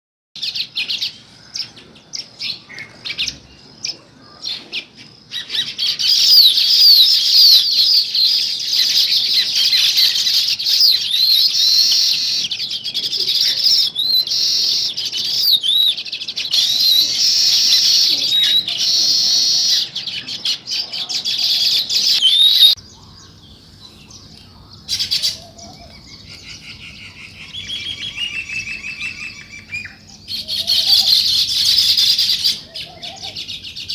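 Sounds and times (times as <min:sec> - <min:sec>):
sparrows chirping: 0:00.4 - 0:33.9.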